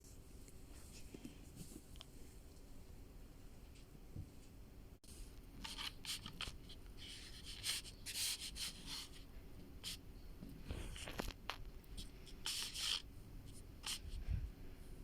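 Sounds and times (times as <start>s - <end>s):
rustling and rubbing materials: 0.0s - 2.8s, 3.6s - 15.0s.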